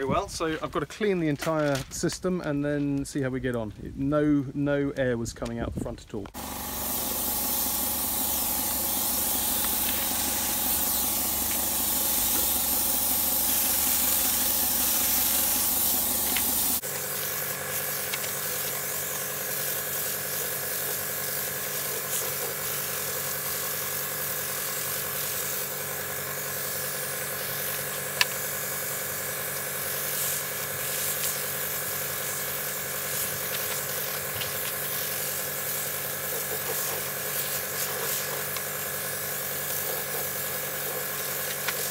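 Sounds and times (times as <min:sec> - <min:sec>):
spray gun hissing: 0:06.3 - 0:41.9
air compressor running: 0:06.4 - 0:41.9.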